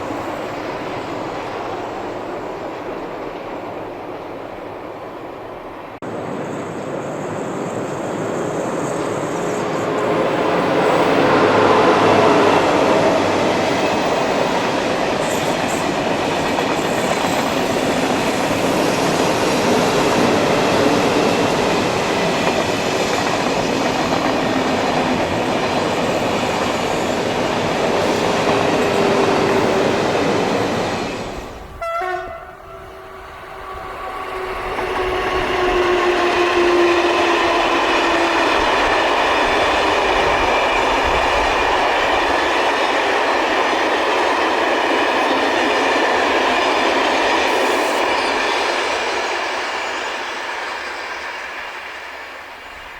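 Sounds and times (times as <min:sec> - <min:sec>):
another train approaching: 0:00.0 - 0:52.9
train rolling past: 0:00.0 - 0:52.9.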